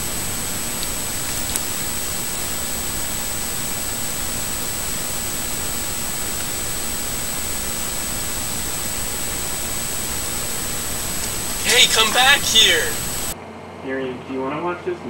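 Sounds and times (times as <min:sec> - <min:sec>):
steady hiss: 0:00.0 - 0:13.4
thin high-pitched whine: 0:00.0 - 0:13.4.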